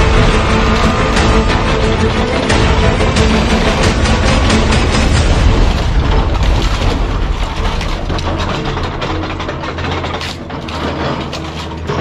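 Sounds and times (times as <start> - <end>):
claw crunching scrap metal: 0.0 - 12.0
metallic clanks and crackles: 0.0 - 12.0.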